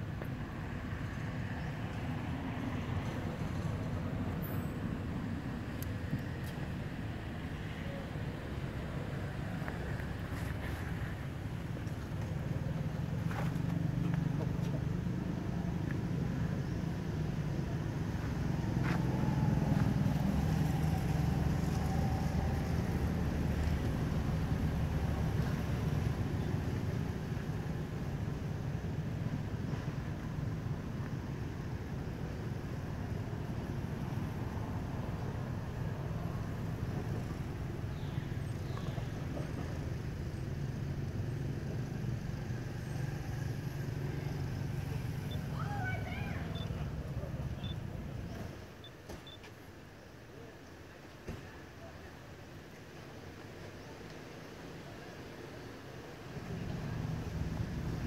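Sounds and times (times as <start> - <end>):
engine running low rumble: 0.0 - 48.9, 55.0 - 58.0.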